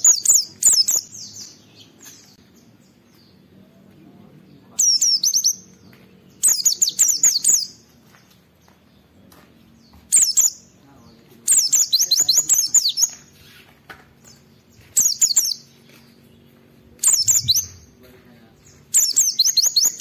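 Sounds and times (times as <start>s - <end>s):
bird singing rapid high chirps: 0.0s - 3.4s, 4.5s - 9.1s, 9.7s - 20.0s.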